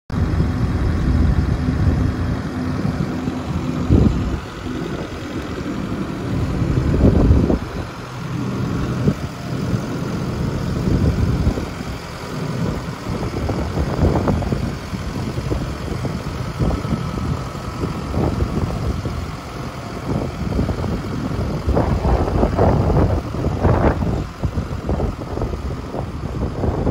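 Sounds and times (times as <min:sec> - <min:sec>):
diesel engine idling: 0:00.1 - 0:26.9
wind buffeting microphone: 0:00.1 - 0:26.9.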